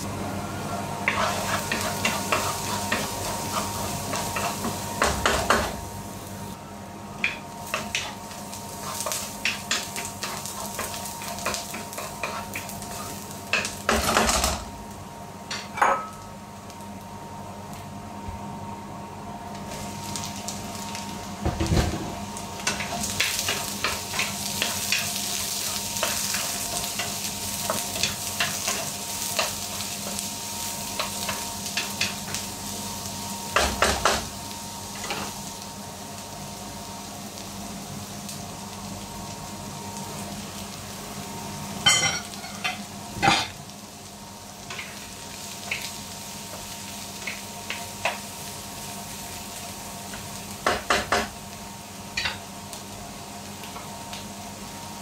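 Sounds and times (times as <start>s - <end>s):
vegetables sizzling in oil: 0.0s - 18.2s, 18.9s - 55.0s.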